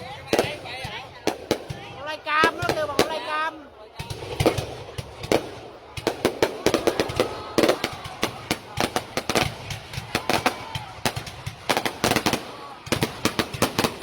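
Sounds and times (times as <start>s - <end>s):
fireworks cracking and banging: 0.0s - 14.0s.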